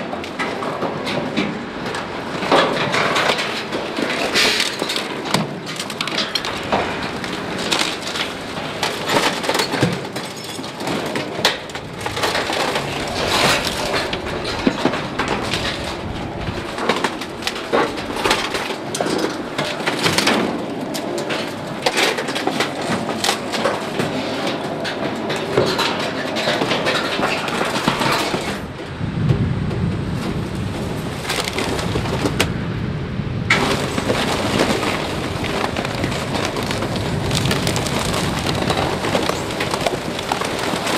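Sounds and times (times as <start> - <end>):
roller crushing waste: 0.0 - 40.9.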